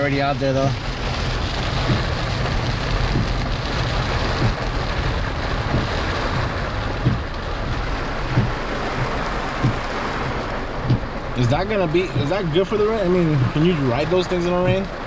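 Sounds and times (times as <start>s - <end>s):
car driving on wet road: 0.0s - 15.0s
heavy rain: 0.0s - 15.0s.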